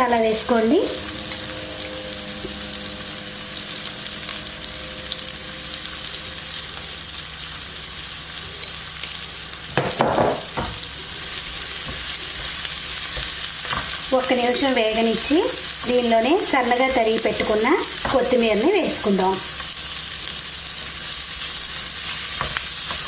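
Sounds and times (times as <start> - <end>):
prawns sizzling in oil: 0.0 - 23.0.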